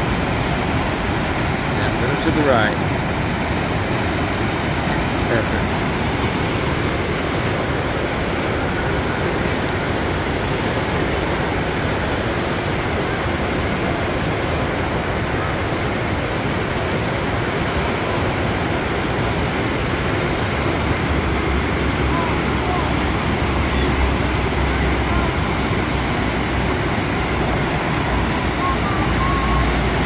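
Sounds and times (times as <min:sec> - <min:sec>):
whitewater rapids rushing: 0:00.0 - 0:30.0.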